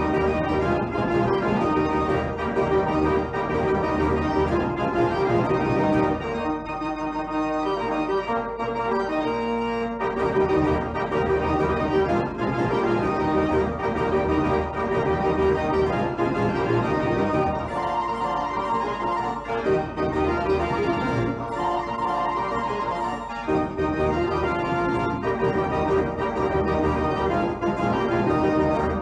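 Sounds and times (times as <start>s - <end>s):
held keyboard chords: 0.0s - 29.0s.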